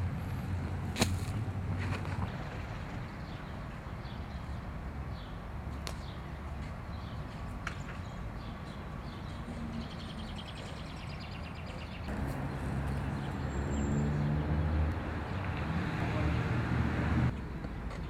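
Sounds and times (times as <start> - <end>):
distant traffic: 0.0 - 18.0.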